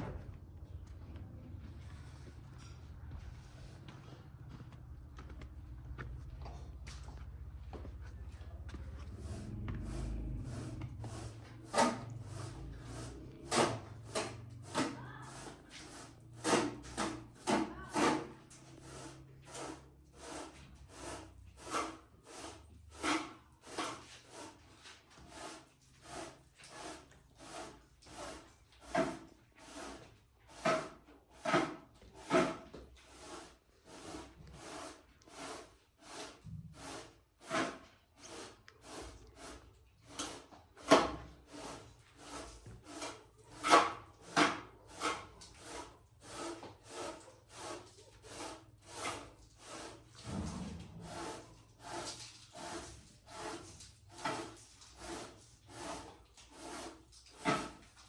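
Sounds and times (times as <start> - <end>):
rubbing or scraping strokes: 8.8 - 58.0.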